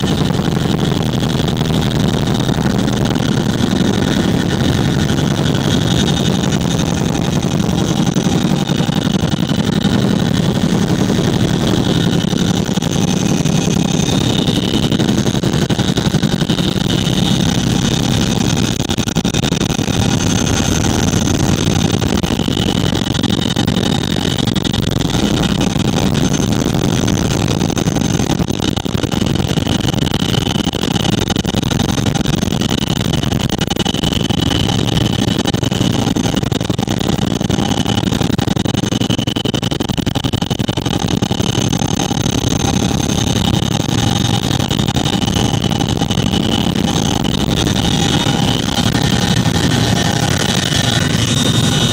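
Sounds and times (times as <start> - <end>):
helicopter rotors and engines drone: 0.0 - 51.9
steady high whine: 0.0 - 51.9.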